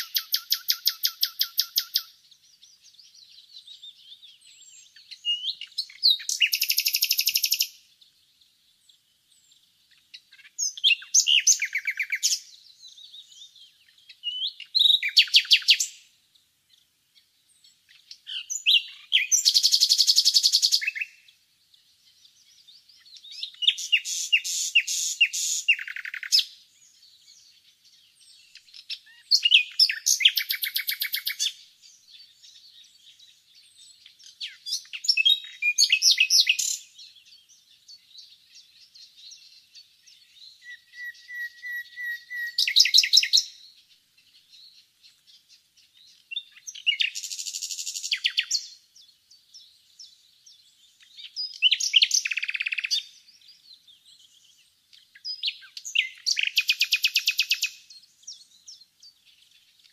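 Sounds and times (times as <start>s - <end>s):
nightingale singing: 0.0s - 59.9s.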